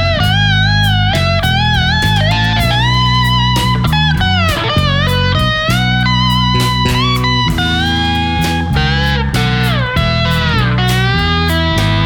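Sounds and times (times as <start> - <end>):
blues-rock band backing: 0.0 - 12.0
electric slide guitar solo: 0.0 - 12.0.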